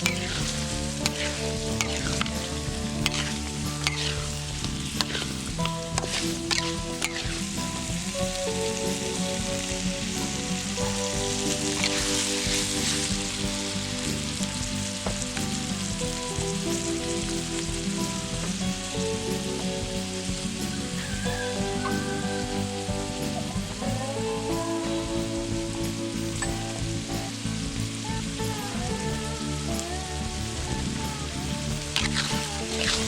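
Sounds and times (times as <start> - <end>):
food sizzling in oil: 0.0 - 33.0.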